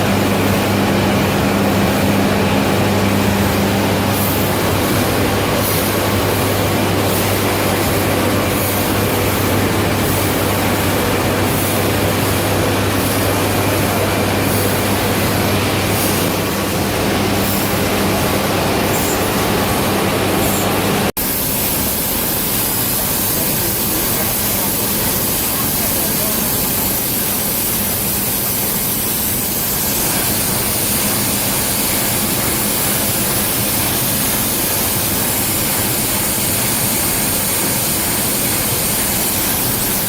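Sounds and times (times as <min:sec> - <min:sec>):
steam engine running: 0:00.0 - 0:40.0
steam hiss: 0:01.9 - 0:40.0.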